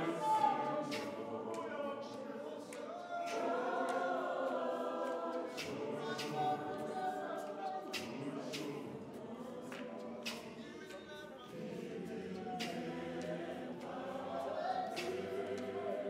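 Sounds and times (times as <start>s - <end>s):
men's choir singing a cappella: 0.0s - 16.0s.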